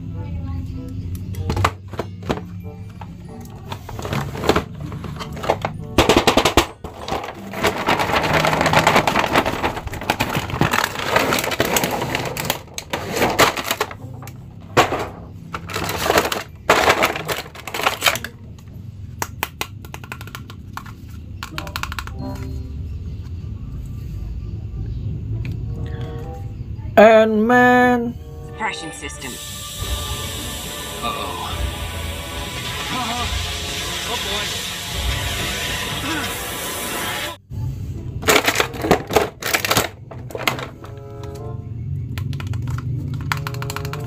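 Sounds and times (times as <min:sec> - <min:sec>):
background music: 0:00.0 - 0:44.0.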